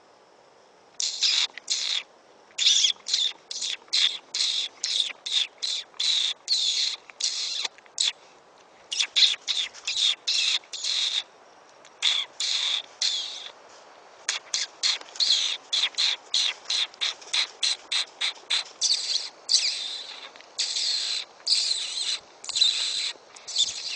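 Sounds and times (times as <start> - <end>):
high-pitched lip squeaks: 1.0 - 2.0, 2.6 - 8.2, 8.9 - 11.2, 11.9 - 13.5, 14.3 - 23.9.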